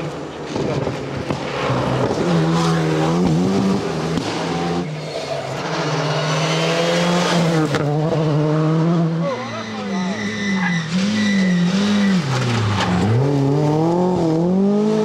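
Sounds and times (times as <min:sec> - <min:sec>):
car engine revving hard: 0:01.6 - 0:09.4, 0:10.5 - 0:15.0.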